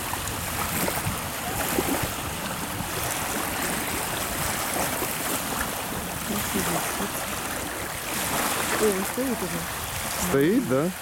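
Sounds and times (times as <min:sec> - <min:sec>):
waves lapping at shore: 0:00.0 - 0:11.0.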